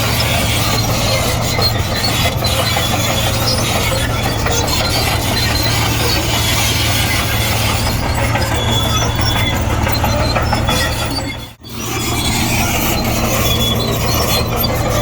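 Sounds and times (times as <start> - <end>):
bulldozer diesel drone: 0.0 - 15.0
clattering track noise: 0.0 - 15.0
short high squeal: 0.0 - 15.0.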